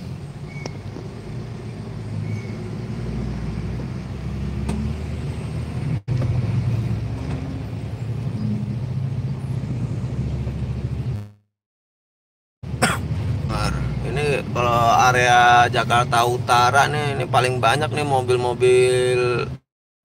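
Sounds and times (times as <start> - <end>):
car engine and road noise: 0.0 - 11.4, 12.6 - 19.6.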